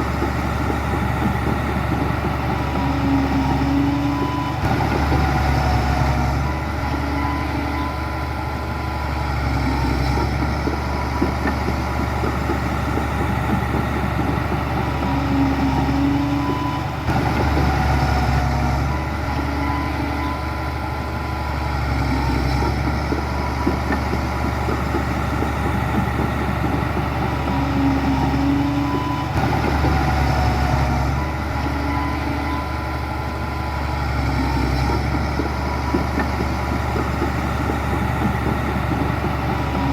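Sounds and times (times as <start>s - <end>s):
heavy diesel engine rumbling: 0.0s - 39.9s.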